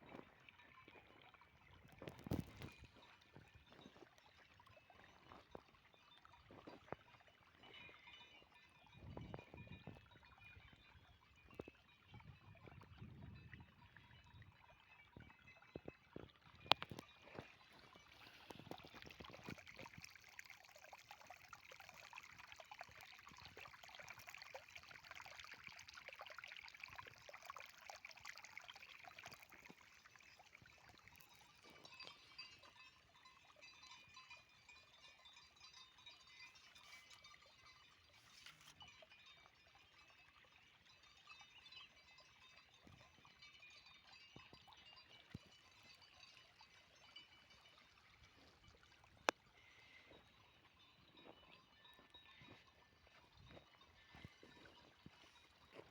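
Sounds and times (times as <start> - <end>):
faint trickling water: 0.0 - 55.9.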